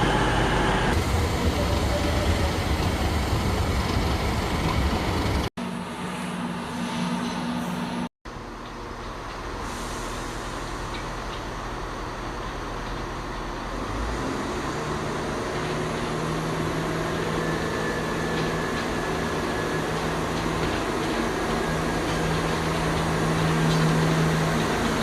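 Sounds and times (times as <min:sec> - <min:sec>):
train diesel engine drone: 0:00.0 - 0:25.0.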